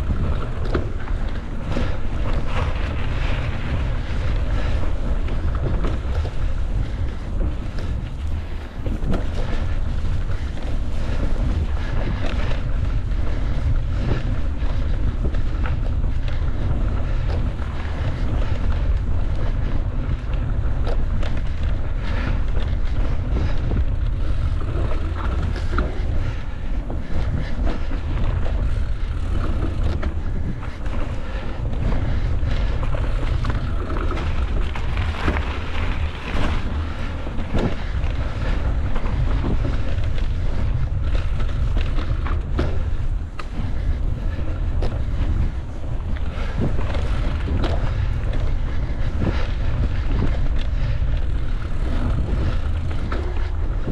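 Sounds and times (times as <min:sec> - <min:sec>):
bike rattles and knocks: 0:00.0 - 0:53.9
wind rushing over microphone: 0:00.0 - 0:53.9.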